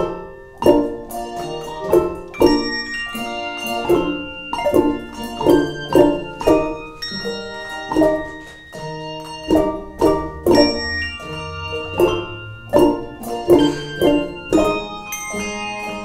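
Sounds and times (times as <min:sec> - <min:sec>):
handbell choir ringing: 0:00.0 - 0:16.0.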